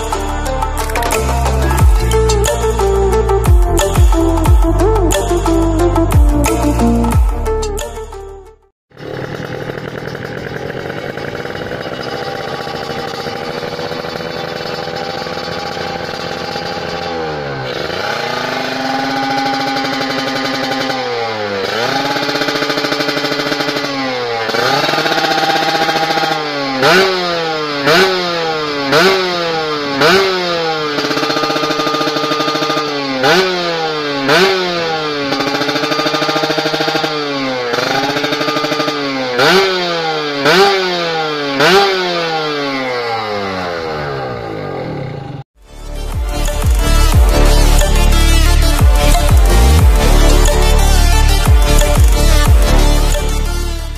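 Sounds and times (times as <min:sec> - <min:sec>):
motorcycle engine idling and revving: 0:00.0 - 0:08.1, 0:08.9 - 0:53.9.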